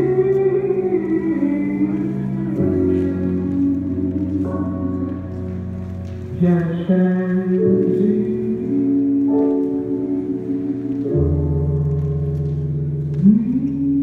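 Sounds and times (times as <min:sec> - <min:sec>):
slow music with held notes: 0:00.0 - 0:14.0.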